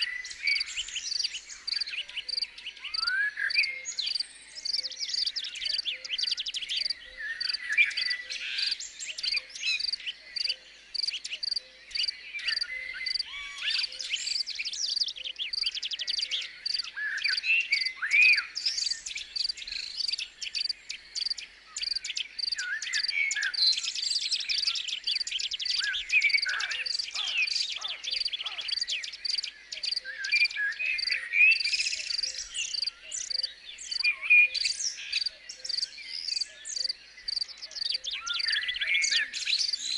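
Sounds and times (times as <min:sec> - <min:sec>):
insect chirping: 0:00.0 - 0:38.8
birds singing and calling: 0:00.0 - 0:39.9.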